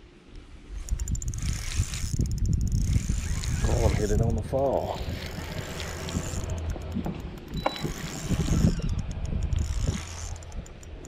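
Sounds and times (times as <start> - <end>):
steady low hum: 0.6 - 11.0
fishing reel clicking: 0.7 - 11.0.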